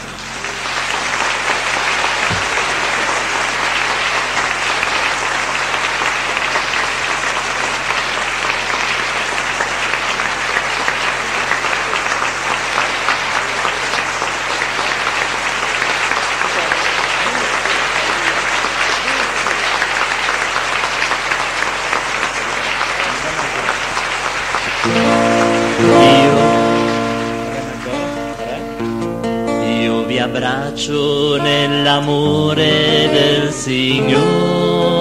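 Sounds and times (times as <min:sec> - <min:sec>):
crowd applauding: 0:00.0 - 0:35.0.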